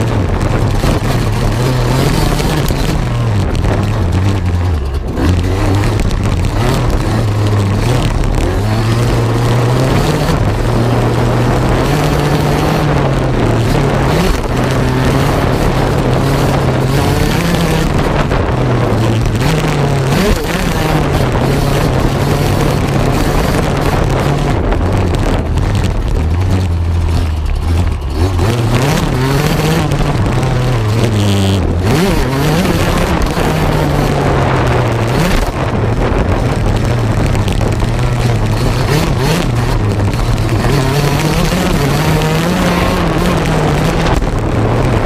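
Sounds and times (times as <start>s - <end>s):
camera rattling: 0.0s - 45.0s
motocross engine revving: 0.0s - 45.0s
wind noise on camera: 0.0s - 45.0s.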